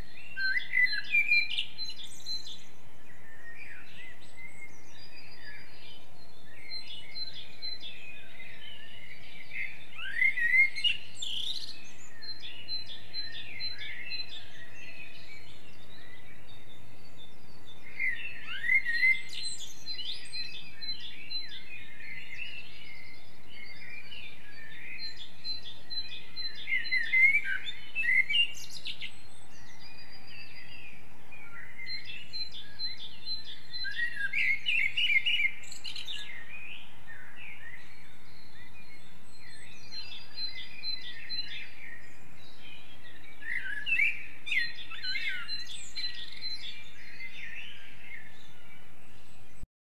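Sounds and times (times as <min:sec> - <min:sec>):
bird chirps: 0:00.0 - 0:49.6
steady background hiss: 0:00.0 - 0:49.6
songbirds singing: 0:00.0 - 0:49.7.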